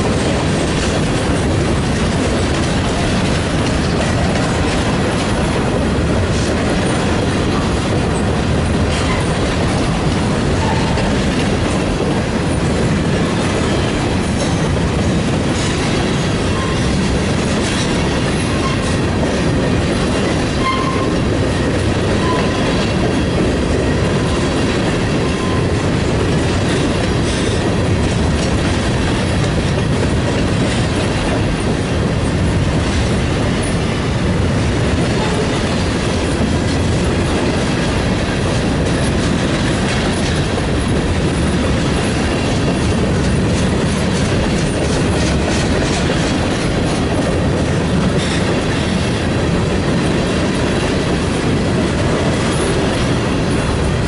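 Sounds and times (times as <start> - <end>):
steel wheels on rail: 0.0 - 54.0.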